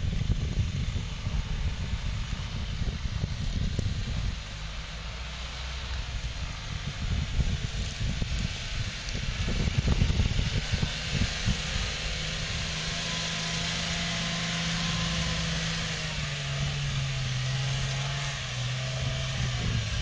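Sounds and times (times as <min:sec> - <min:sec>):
car engine running: 0:00.0 - 0:20.0
wind buffeting microphone: 0:00.0 - 0:20.0.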